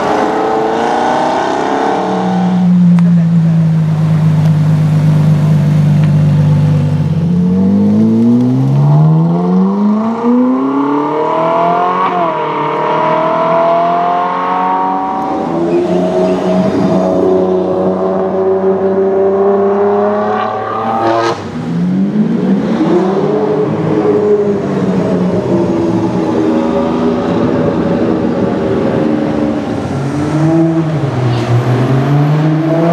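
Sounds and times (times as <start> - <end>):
sports car engines revving: 0.0 - 32.9.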